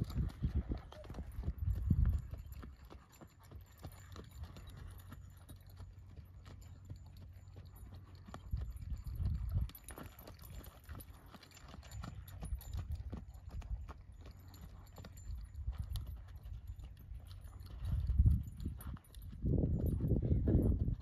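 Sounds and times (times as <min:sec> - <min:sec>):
horse hoofbeats on dirt: 0:00.0 - 0:21.0.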